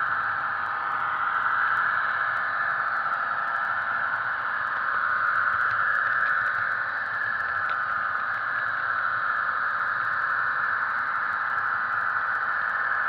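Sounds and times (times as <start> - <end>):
hissy diesel engine drone from speaker: 0.0 - 13.0.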